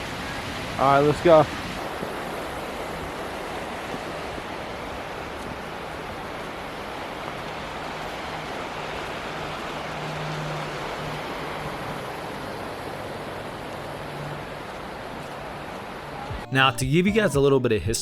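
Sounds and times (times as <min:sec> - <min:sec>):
waterfall roaring: 0:00.0 - 0:16.4.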